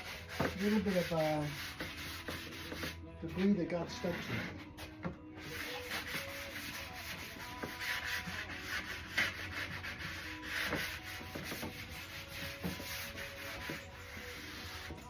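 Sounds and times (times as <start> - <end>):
sanding block rasping on surface: 0.0 - 15.0.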